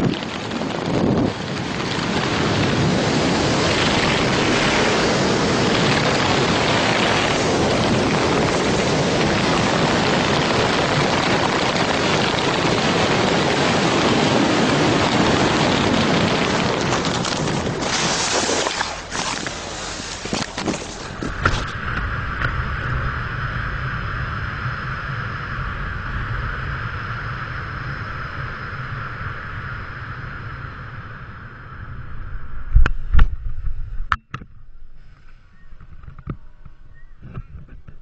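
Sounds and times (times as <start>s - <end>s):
wind rushing over microphone: 0.0s - 38.0s.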